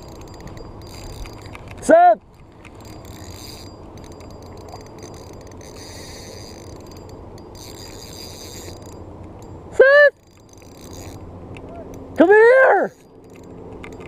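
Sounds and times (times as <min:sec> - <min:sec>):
fishing reel clicking and buzzing: 0:00.0 - 0:14.0.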